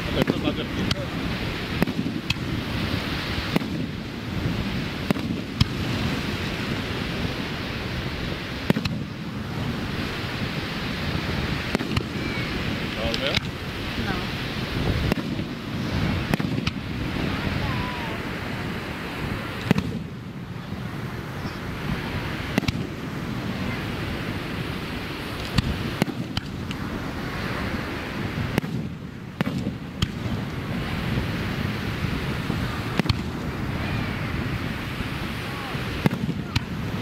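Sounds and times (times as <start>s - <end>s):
firework shells bursting: 0.0s - 17.6s, 18.2s - 20.4s, 21.7s - 37.0s
rushing background noise: 0.0s - 37.0s.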